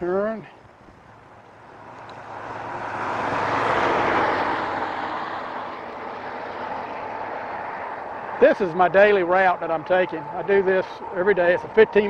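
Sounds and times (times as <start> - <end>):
vehicle passing by: 1.0 - 12.0.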